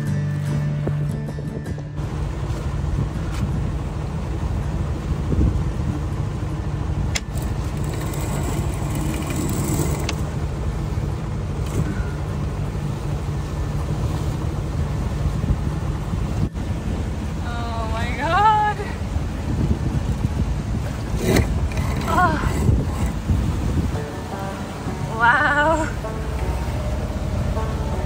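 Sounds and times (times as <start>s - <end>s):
boat engine rumbling: 0.0s - 28.0s
water noise: 0.0s - 28.0s
wind: 0.0s - 28.0s.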